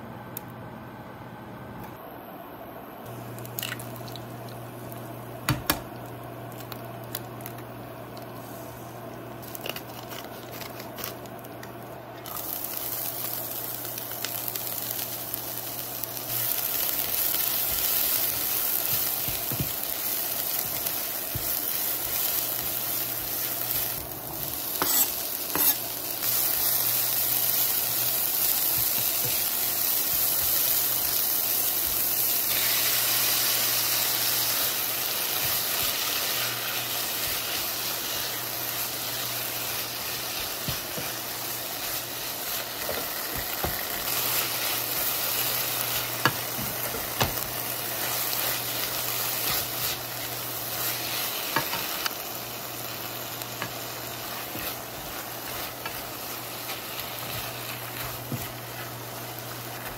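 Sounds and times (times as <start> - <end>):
oil sizzling: 3.0 - 59.9.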